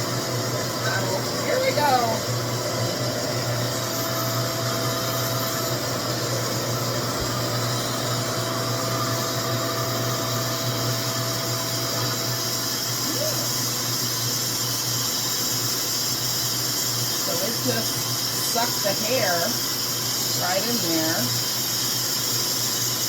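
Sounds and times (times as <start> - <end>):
hair dryer suction fan rushing: 0.0 - 23.0.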